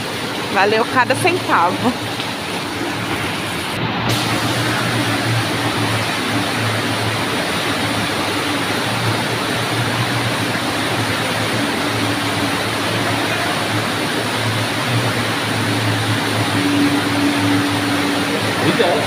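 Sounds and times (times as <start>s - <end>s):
fountain water splashing: 0.0s - 19.0s
low hum: 0.0s - 19.0s.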